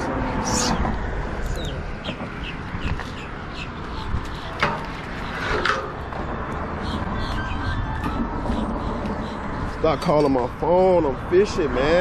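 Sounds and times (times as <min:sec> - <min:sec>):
birds chirping: 0:00.4 - 0:11.5.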